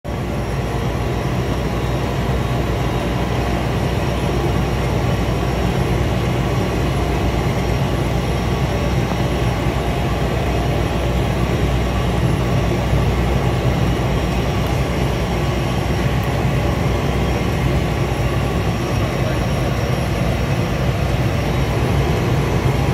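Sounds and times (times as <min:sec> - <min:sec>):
turboprop engine drone: 0:00.0 - 0:22.9.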